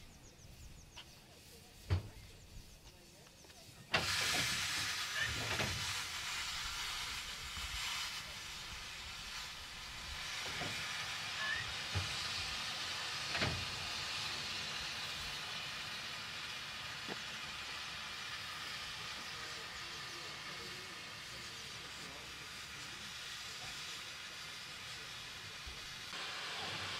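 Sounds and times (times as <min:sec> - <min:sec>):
steam hissing: 0:00.0 - 0:26.9.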